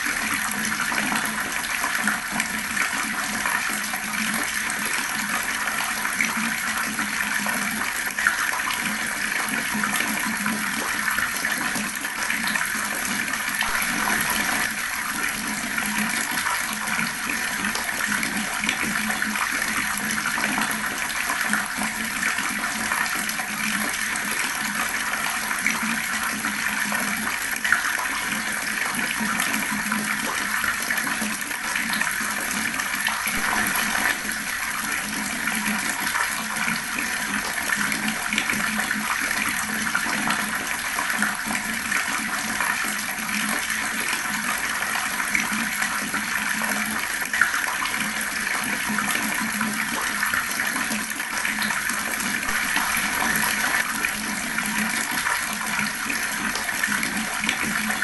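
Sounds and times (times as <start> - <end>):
water flowing fast: 0.0 - 58.0.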